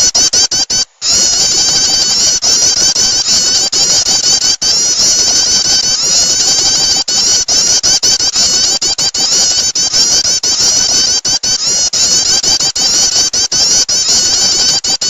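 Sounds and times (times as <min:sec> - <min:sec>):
rapid high-pitched bird chirping: 0:00.0 - 0:15.0.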